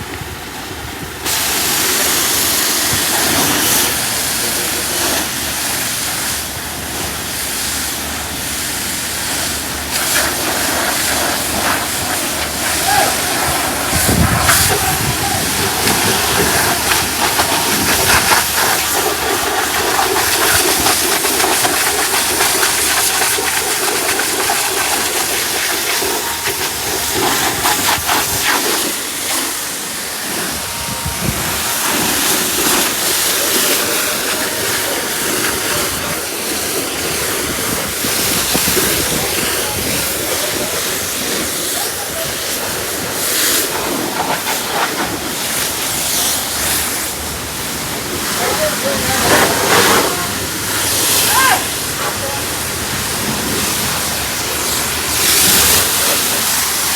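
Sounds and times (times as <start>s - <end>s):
pressure washer spraying: 0.6s - 56.9s.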